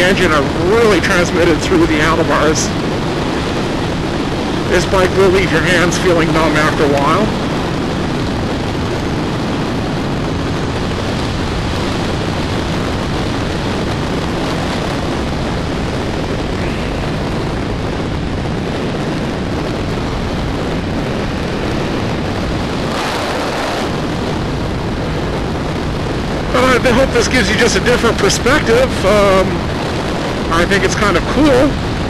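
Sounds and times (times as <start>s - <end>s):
wind rush on microphone: 0.0s - 32.0s.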